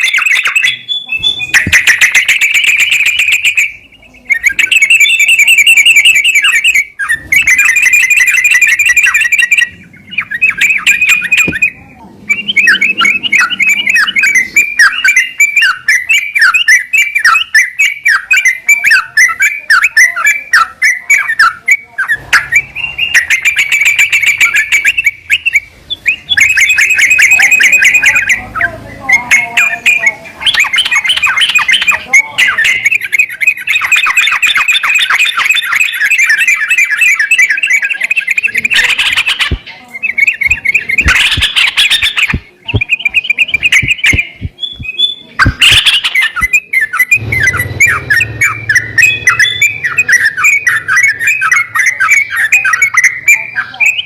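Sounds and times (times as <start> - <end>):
bird song fast repeated notes: 0.0 - 54.0.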